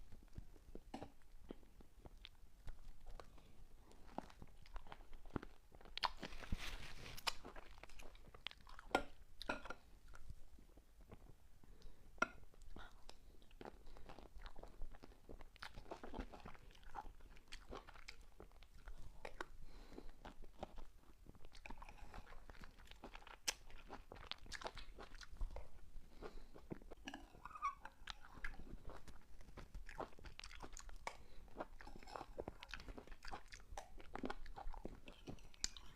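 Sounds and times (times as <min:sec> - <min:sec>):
soft chewing and mouth sounds: 0:00.0 - 0:35.9.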